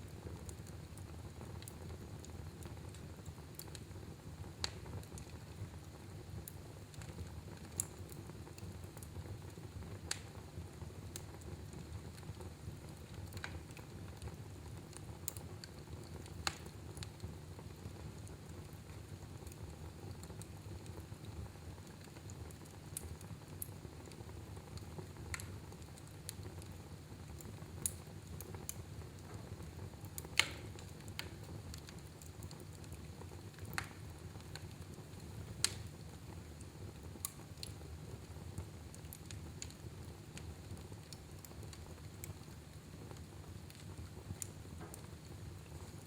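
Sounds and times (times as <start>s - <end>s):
fire rumbling: 0.0s - 46.0s
wood fire crackles and pops: 0.0s - 46.0s.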